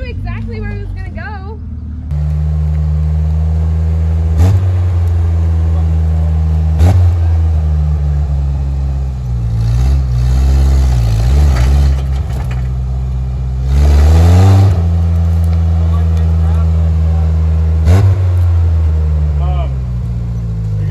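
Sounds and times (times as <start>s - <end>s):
truck engine running under load: 2.0s - 20.9s.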